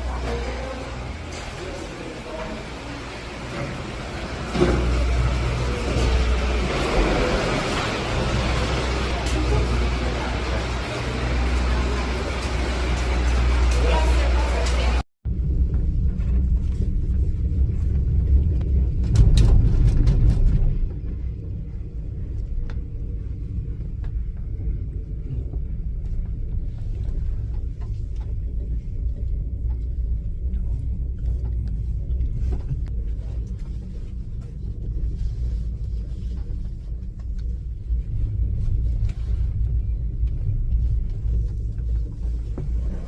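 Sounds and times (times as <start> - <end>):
vehicle rumbling in motion: 0.0 - 43.0.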